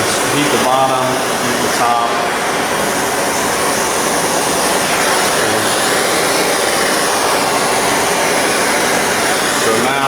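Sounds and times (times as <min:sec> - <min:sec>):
propane torch hissing: 0:00.0 - 0:10.0.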